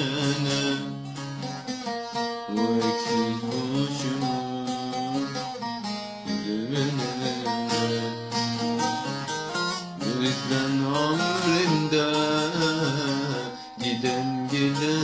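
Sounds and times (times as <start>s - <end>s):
plucked-string melody: 0.0s - 15.0s.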